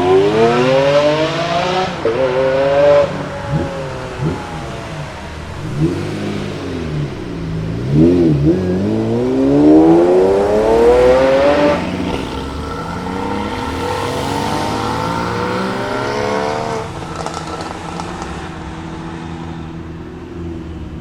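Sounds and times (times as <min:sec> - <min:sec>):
car engine accelerating hard: 0:00.0 - 0:21.0
quieter car engine: 0:00.0 - 0:21.0.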